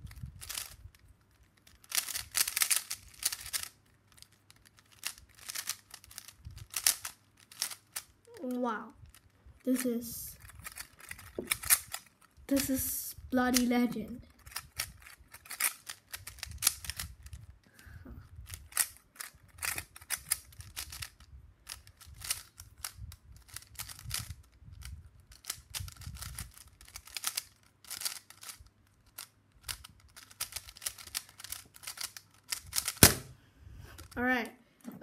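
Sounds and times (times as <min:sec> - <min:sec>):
puzzle cube plastic clicking: 0:00.0 - 0:17.6, 0:18.3 - 0:33.4.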